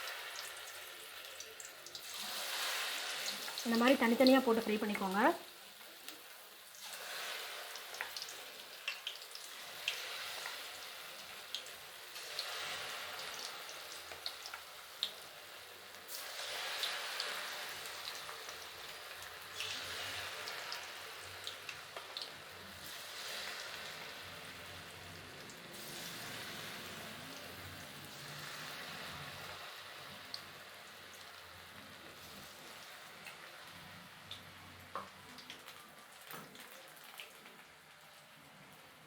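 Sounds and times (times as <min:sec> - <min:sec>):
food deep-frying in hot oil: 0:00.0 - 0:39.0.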